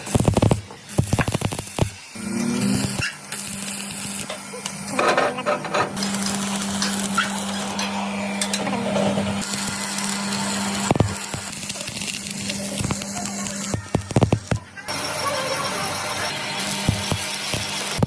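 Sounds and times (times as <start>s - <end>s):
welding arc crackling: 0.0s - 18.0s
welding machine hum: 0.0s - 18.0s.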